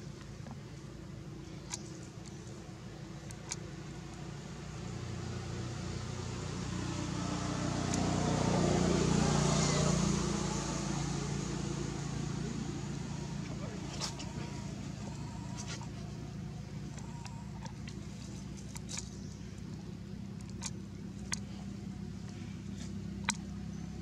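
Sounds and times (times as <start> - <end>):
vehicle engine passing by: 2.9 - 24.0.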